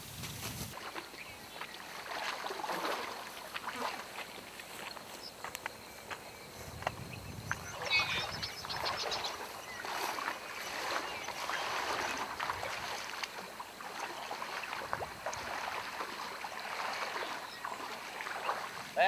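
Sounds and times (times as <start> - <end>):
people wading through stream water: 0.7 - 19.0.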